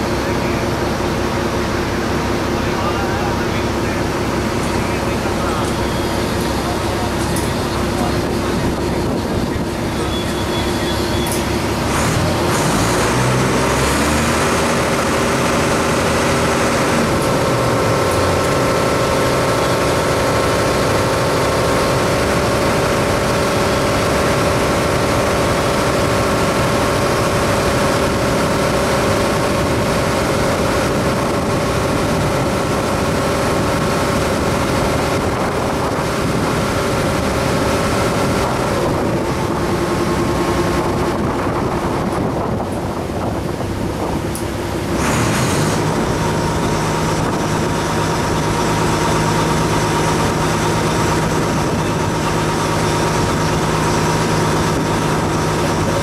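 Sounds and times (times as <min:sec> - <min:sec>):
ferry engine drone: 0:00.0 - 0:56.0.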